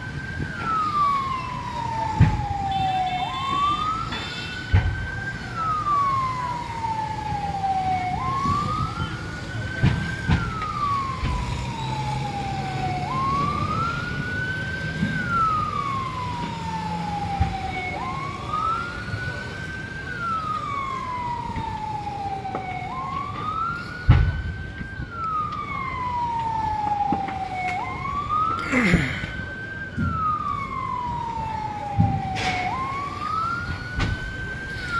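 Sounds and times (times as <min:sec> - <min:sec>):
siren wailing: 0:00.0 - 0:34.9.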